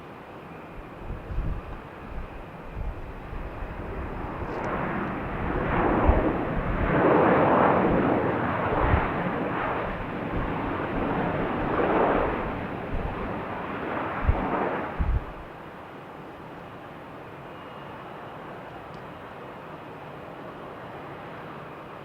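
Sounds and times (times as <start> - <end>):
airplane passing: 0.5 - 22.0.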